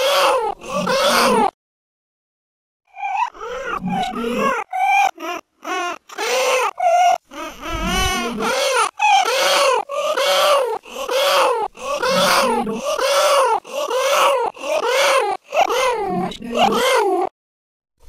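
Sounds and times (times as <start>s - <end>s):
wailing cries: 0.0s - 1.5s, 3.0s - 17.3s.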